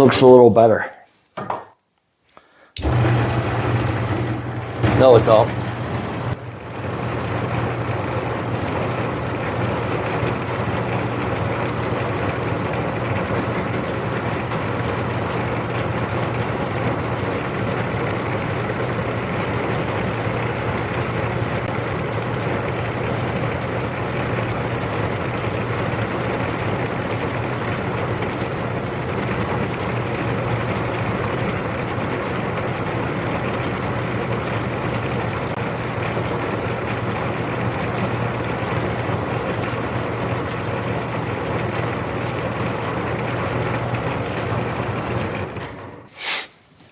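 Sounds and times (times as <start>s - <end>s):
metal lathe motor hum: 2.8s - 46.0s.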